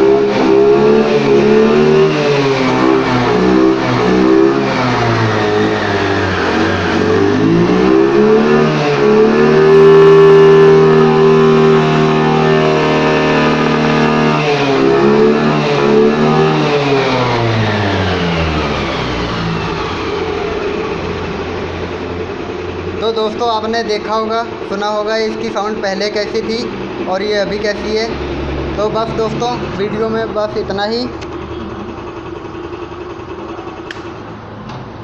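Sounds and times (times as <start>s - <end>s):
scooter engine revving: 0.0s - 35.0s.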